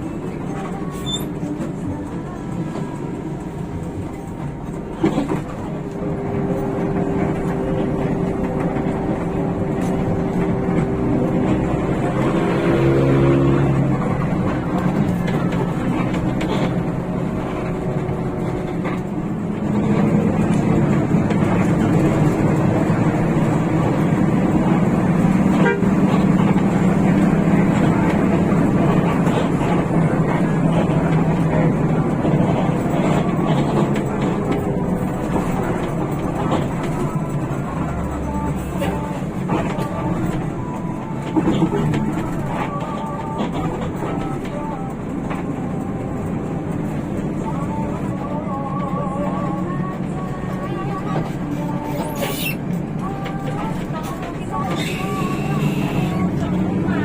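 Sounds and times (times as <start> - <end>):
diesel bus engine drone: 0.0 - 57.0
road noise: 0.0 - 57.0.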